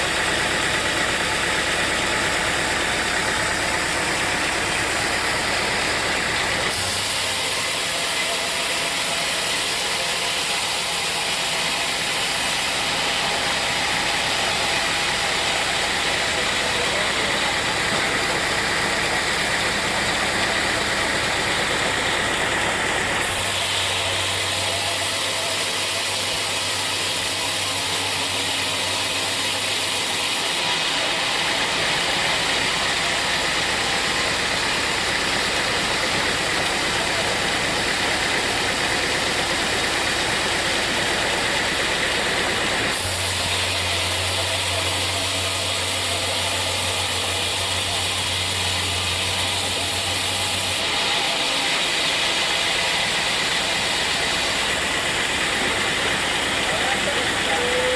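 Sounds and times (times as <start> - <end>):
sawmill machinery drone and hiss: 0.0 - 57.9.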